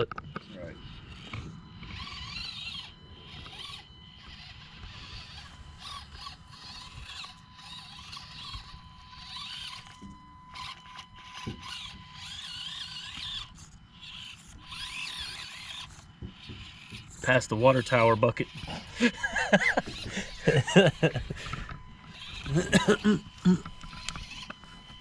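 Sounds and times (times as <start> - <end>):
small electric motor whining: 0.0 - 25.0.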